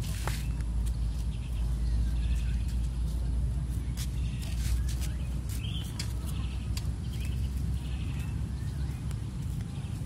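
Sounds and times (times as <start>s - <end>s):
wind rumble on microphone: 0.0s - 10.0s
small bird chirping: 0.3s - 10.0s.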